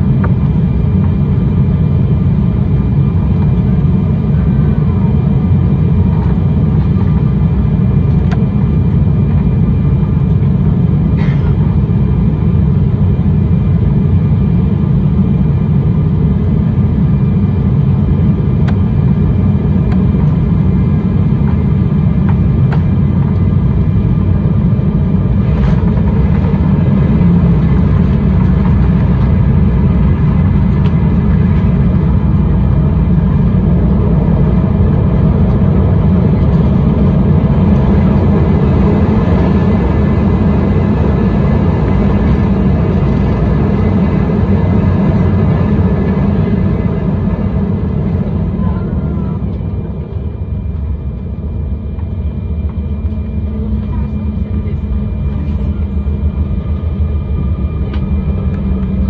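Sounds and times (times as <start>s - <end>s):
airliner cabin low rumble: 0.0s - 59.0s.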